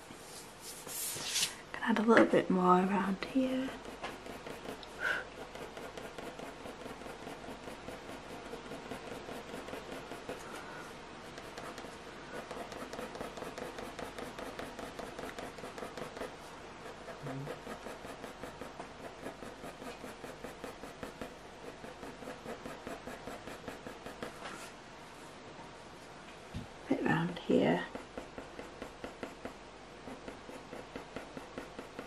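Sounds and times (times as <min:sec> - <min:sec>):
pencil scratching on paper: 0:02.5 - 0:24.8, 0:26.9 - 0:32.0.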